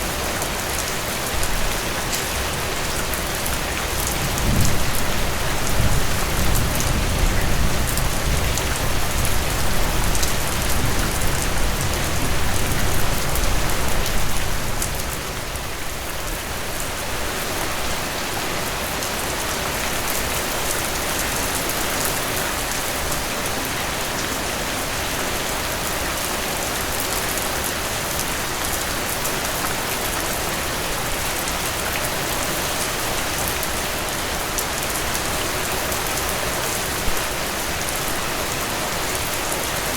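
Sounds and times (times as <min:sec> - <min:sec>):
heavy rain splashing: 0:00.0 - 0:39.9.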